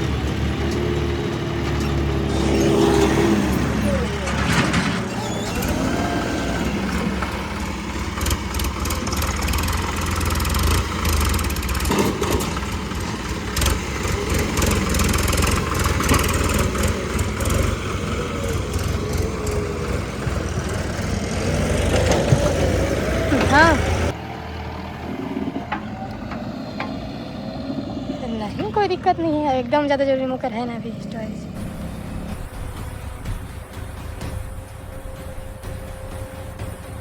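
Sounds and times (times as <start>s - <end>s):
engine humming steadily: 0.0s - 37.0s.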